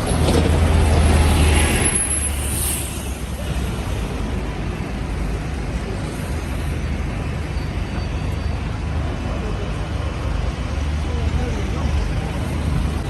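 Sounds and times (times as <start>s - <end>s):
street noise: 0.0s - 13.0s
traffic engine drone: 0.0s - 13.0s.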